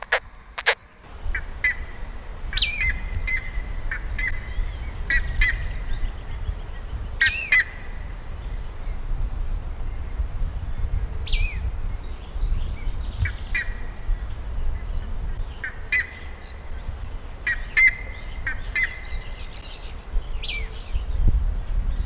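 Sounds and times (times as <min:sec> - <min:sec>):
ibises calling: 0:00.0 - 0:09.0, 0:12.2 - 0:21.1.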